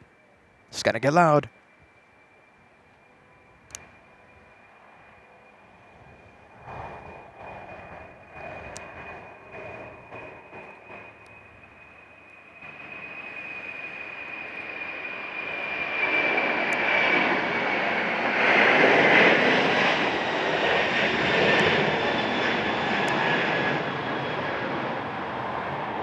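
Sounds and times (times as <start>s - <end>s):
jet engines roaring at takeoff: 0.1s - 26.0s.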